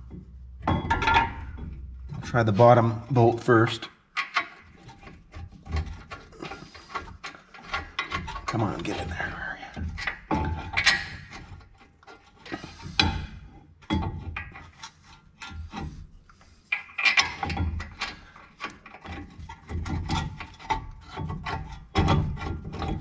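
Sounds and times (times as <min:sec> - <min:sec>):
metal bolt scraping and clicking: 0:00.0 - 0:23.0.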